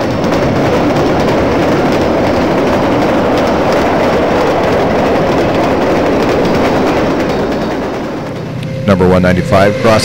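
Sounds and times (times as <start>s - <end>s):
train cars rumbling past: 0.0s - 10.0s.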